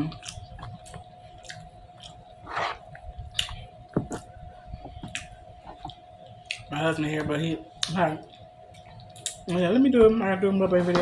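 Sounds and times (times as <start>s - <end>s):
person chewing: 0.0s - 9.5s.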